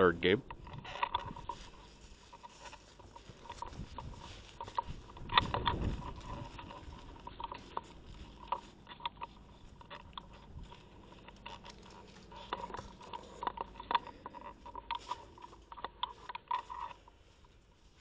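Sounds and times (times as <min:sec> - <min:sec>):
footsteps on grass: 0:00.0 - 0:18.0
camera handling noise: 0:00.5 - 0:17.0.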